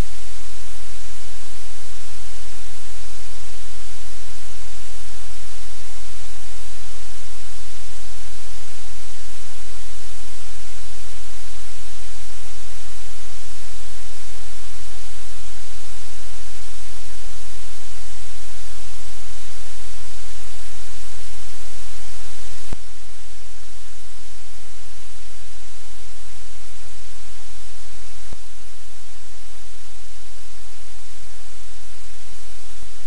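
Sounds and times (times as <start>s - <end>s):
static hiss: 0.0s - 33.0s.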